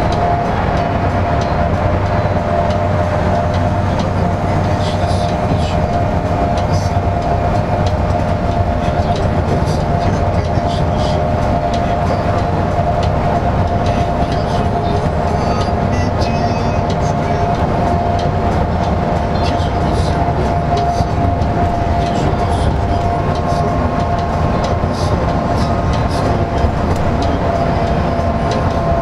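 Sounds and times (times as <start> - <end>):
bus engine and tyre drone: 0.0 - 29.0
steady whine: 0.0 - 29.0.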